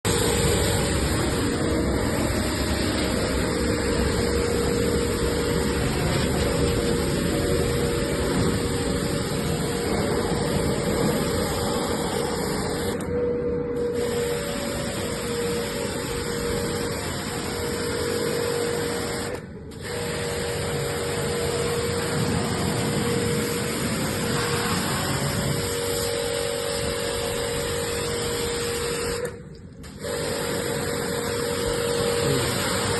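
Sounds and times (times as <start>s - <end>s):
machine humming: 0.0s - 32.9s.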